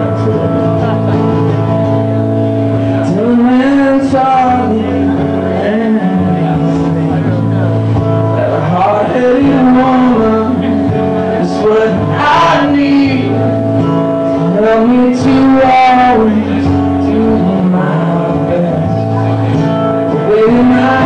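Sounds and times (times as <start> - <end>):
man singing: 0.0 - 2.1, 2.7 - 21.0
acoustic guitar: 0.0 - 21.0.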